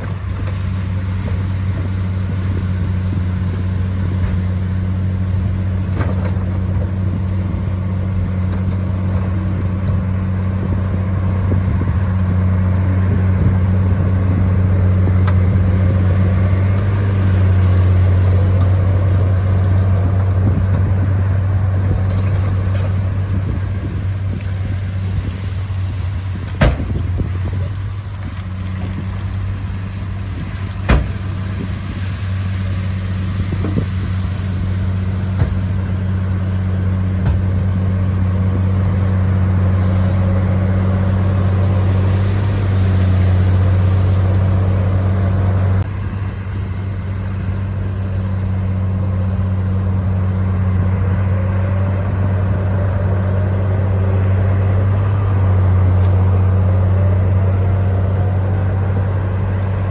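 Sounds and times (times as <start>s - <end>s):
bulldozer diesel engine droning: 0.0s - 59.9s.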